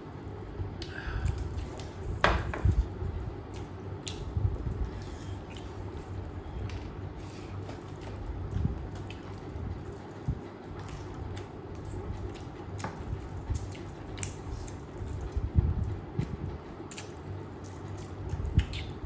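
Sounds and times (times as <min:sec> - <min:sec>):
wet chewing sounds: 0:00.8 - 0:19.0.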